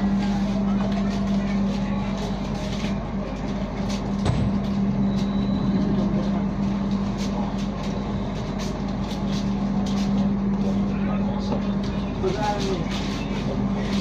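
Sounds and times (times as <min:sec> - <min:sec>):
train coach rumble: 0:00.0 - 0:14.0.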